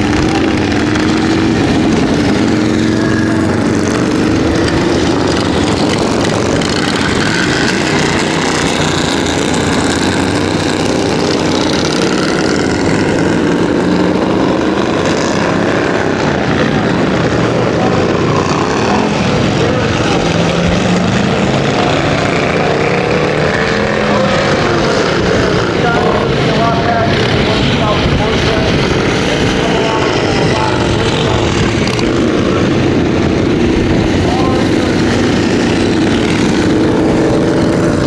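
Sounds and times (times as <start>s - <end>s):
motorcycle engines running: 0.0s - 38.0s.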